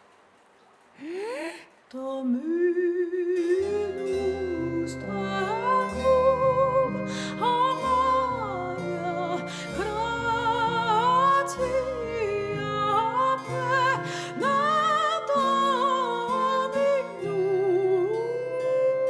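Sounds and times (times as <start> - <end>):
person singing slow melody: 1.0 - 19.0
soft instrumental accompaniment: 3.4 - 19.0.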